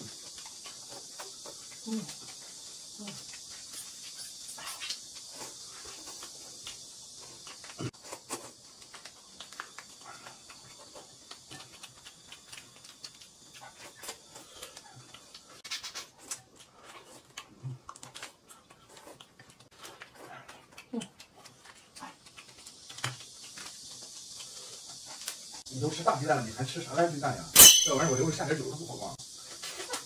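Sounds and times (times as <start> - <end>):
noodles slurped and chewed: 0.1 - 25.6.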